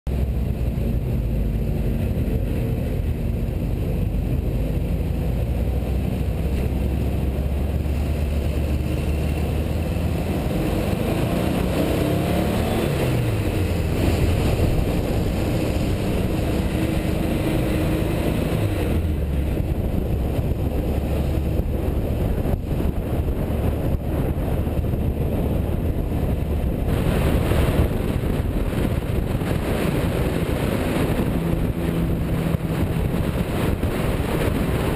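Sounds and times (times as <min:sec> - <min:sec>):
car engine running: 0:00.1 - 0:34.9.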